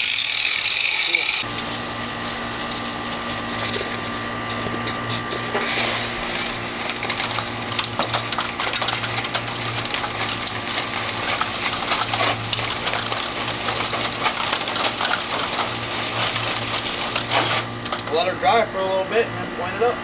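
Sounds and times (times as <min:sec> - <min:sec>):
metal tools scraping brick: 0:00.5 - 0:18.1
low machine hum: 0:01.3 - 0:20.0.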